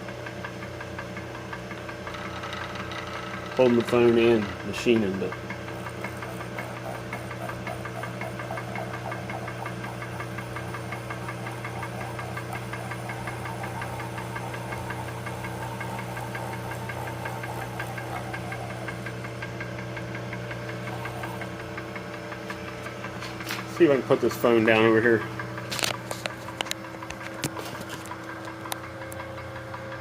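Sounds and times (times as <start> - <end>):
metalworking machine humming: 0.0 - 30.0.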